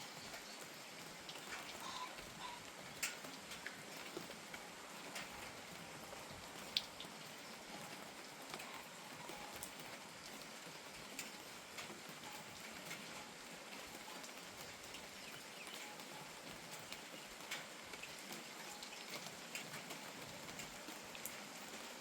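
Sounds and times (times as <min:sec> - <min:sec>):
light rain: 0:00.0 - 0:22.0
raindrops tapping on surfaces: 0:00.0 - 0:22.0.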